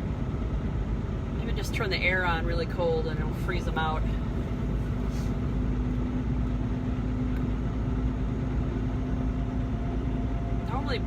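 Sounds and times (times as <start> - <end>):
constant low hum: 0.0 - 11.0
road noise: 0.0 - 11.0
truck engine drone: 0.0 - 11.0.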